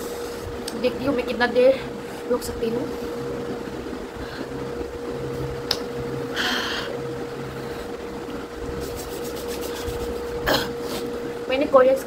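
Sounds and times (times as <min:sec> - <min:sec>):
steady hum and room noise: 0:00.0 - 0:12.0.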